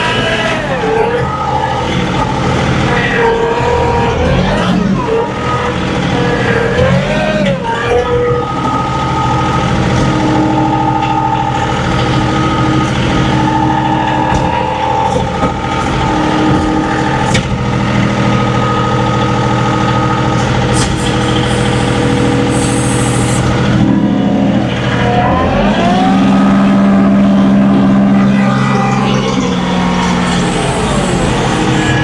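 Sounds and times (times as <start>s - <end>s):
drive whine: 0.0s - 32.0s
tractor diesel engine running: 0.0s - 32.0s.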